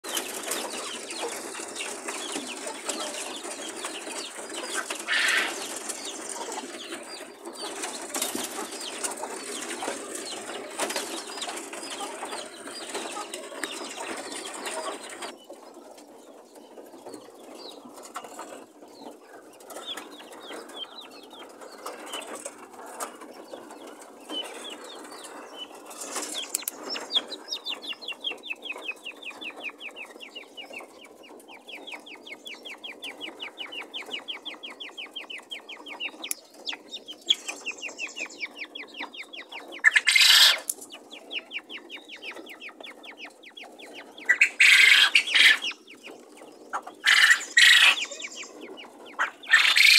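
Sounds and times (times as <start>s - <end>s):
quails shuffling and fluttering: 0.0s - 49.9s
quail falling chirps: 0.1s - 15.3s, 23.3s - 49.9s.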